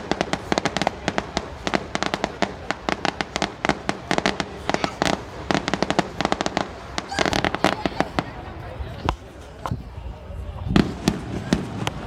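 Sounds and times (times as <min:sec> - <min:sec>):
fireworks bangs and pops: 0:00.0 - 0:09.8, 0:10.7 - 0:12.0.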